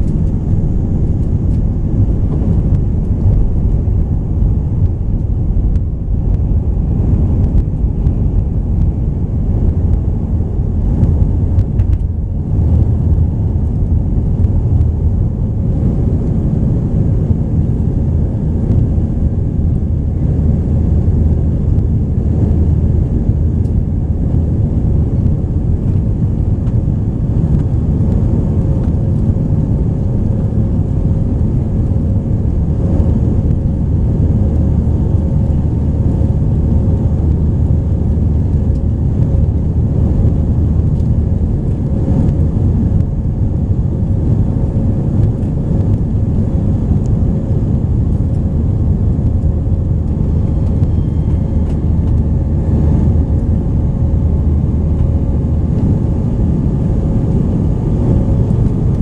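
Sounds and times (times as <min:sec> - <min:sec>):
faint steady hum: 0:00.0 - 0:59.0
jet engine rumble in cabin: 0:00.0 - 0:59.0.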